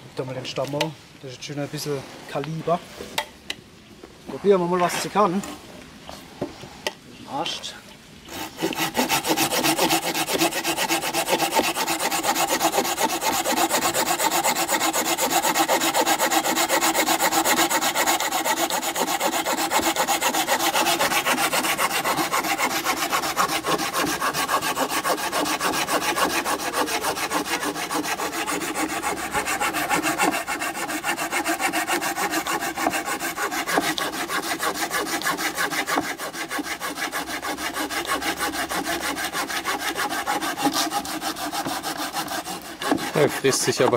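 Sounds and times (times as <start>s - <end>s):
hand saw cutting wood: 8.3s - 43.9s.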